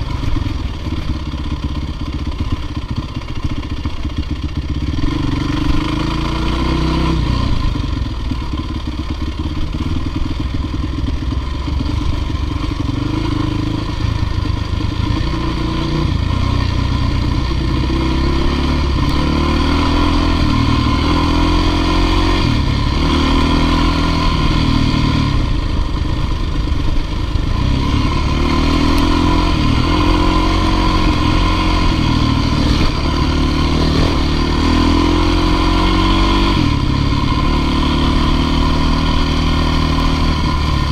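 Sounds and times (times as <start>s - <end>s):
dirt bike engine revving: 0.0s - 10.4s, 11.6s - 40.9s.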